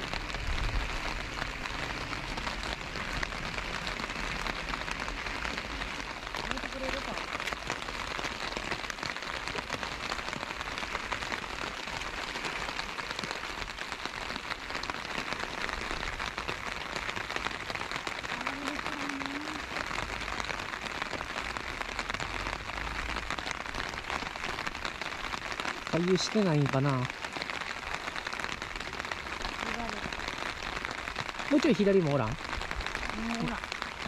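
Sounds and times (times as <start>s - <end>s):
heavy rain on water and concrete: 0.0s - 34.0s.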